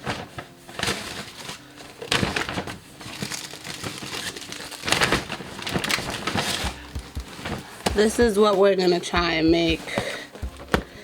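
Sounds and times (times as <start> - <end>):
grocery bags crinkling: 0.0 - 11.0.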